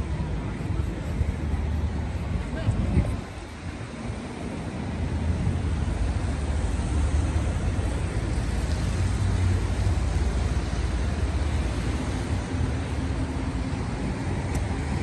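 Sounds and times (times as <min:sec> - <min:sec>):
road traffic rumble and hiss: 0:00.0 - 0:15.0
wind buffeting microphone: 0:00.1 - 0:15.0.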